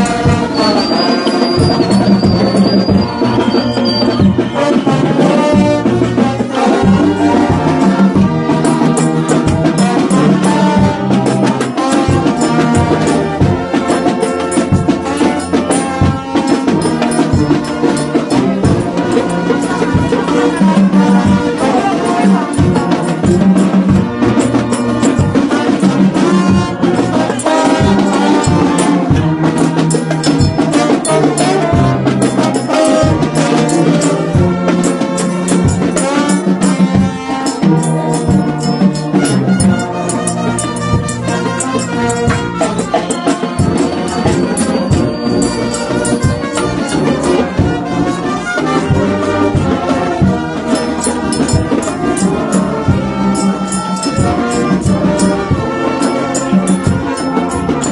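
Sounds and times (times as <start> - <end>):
brass horns playing tune: 0.0 - 57.9
steady drum beat: 0.0 - 57.9.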